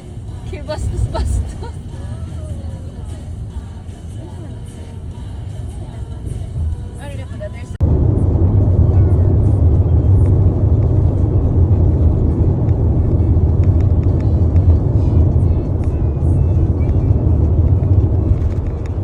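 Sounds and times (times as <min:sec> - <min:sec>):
vehicle interior rumble: 0:00.0 - 0:19.0.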